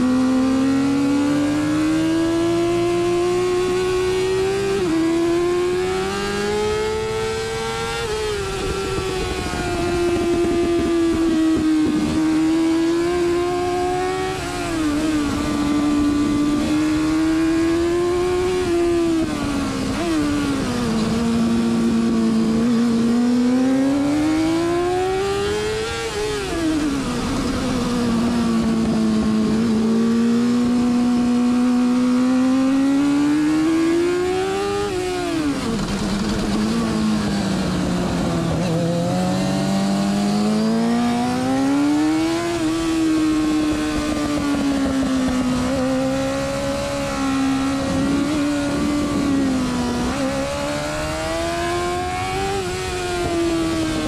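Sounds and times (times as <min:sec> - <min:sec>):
racing motorcycle engine: 0:00.0 - 0:54.0
wind rushing over microphone: 0:00.0 - 0:54.0.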